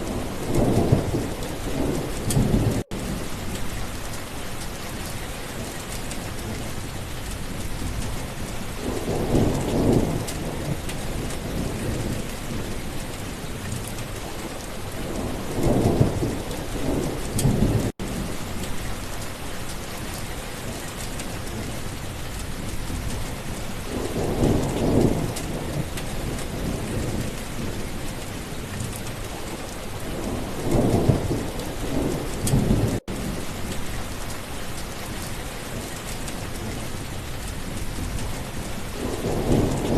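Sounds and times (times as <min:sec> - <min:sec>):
thunder rumbling: 0:00.0 - 0:04.1, 0:05.0 - 0:19.2, 0:19.9 - 0:39.9
steady rain: 0:00.0 - 0:39.9.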